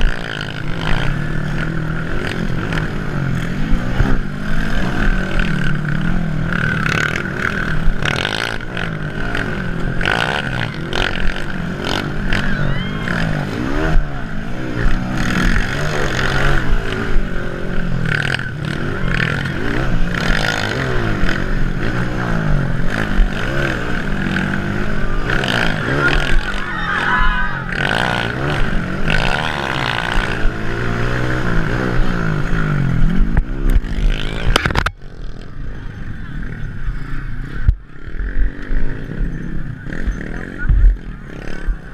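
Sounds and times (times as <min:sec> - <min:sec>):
motocross engines revving: 0:00.0 - 0:41.9.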